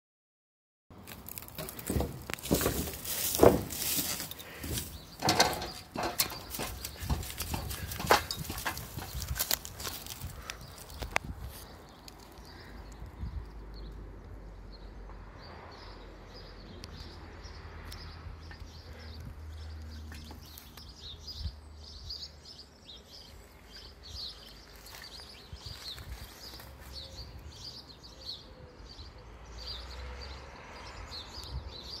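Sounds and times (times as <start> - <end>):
small birds chirping: 1.4 - 32.0.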